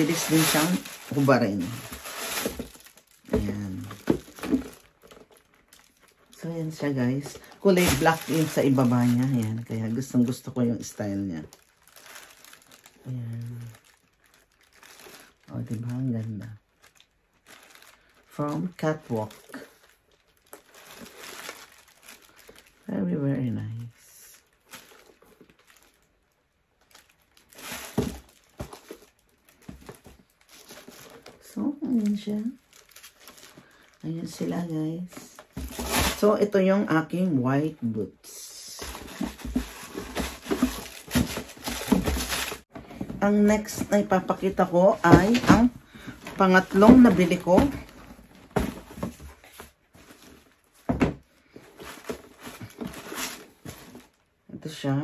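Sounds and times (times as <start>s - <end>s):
rustling: 0.0s - 10.4s, 11.4s - 16.0s, 16.6s - 22.9s, 24.2s - 36.3s, 38.5s - 54.3s.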